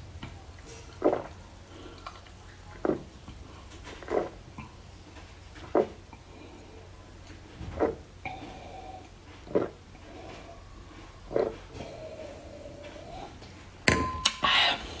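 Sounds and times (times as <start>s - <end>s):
faint throaty sounds: 0.0s - 15.0s
loud gulping swallows: 0.6s - 13.8s.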